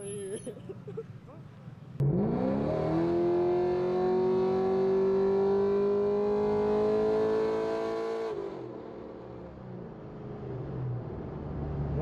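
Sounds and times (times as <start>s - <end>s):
car engine at high revs: 2.0s - 12.0s.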